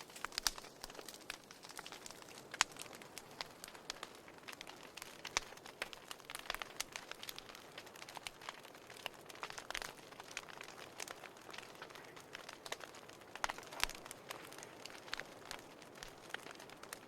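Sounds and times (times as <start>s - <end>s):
soft steady hiss: 0.0s - 17.0s
wood fire crackling and popping: 0.0s - 17.0s.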